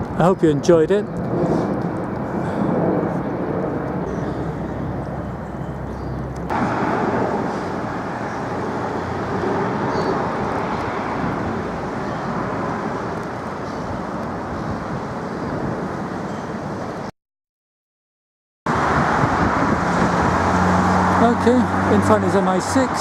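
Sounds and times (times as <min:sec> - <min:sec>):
road traffic noise: 0:00.0 - 0:17.1, 0:18.7 - 0:23.0.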